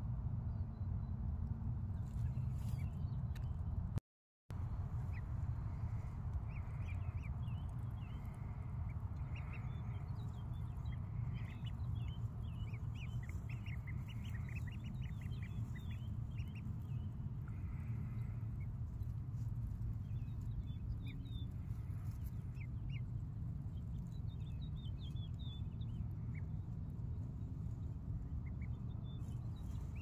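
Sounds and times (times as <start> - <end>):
low rumble: 4.6 - 30.0
ducklings and chicks peeping: 4.9 - 30.0.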